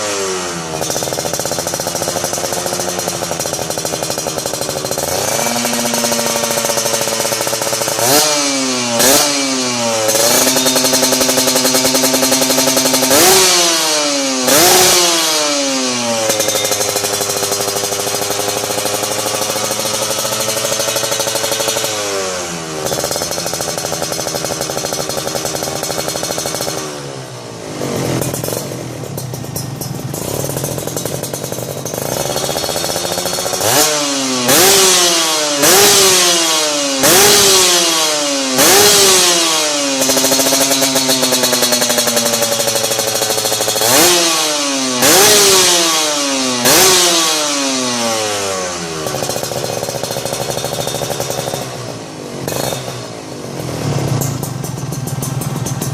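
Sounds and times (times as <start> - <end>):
two-stroke engine revving: 0.0 - 55.9.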